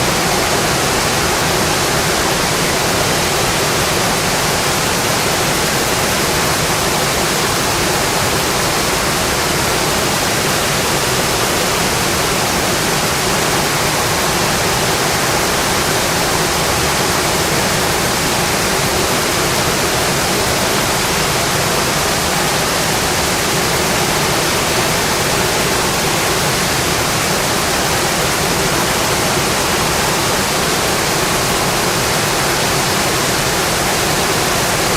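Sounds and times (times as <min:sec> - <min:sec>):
rain on a metal roof: 0:00.0 - 0:34.9.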